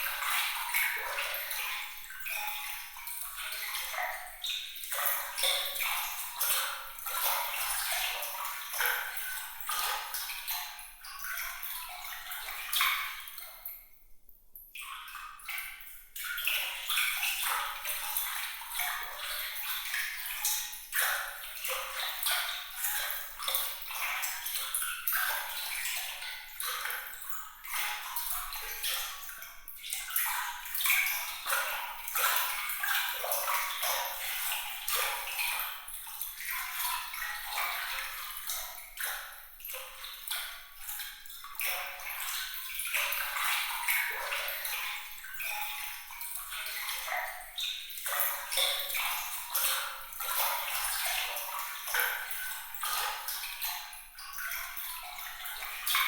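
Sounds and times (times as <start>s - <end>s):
water trickling and splashing: 0.0s - 14.0s, 14.6s - 56.0s.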